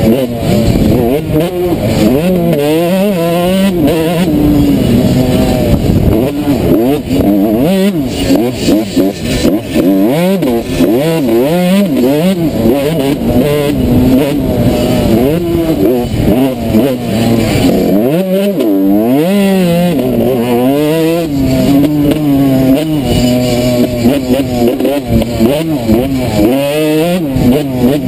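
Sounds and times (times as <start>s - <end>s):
motocross engine revving: 0.0s - 28.0s.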